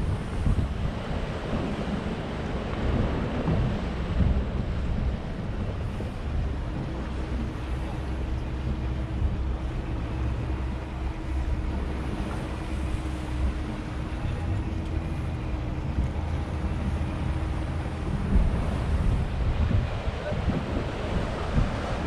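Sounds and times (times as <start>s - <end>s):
boat engine rumbling: 0.0s - 22.0s
water noise: 0.0s - 22.0s
wind: 0.0s - 22.0s.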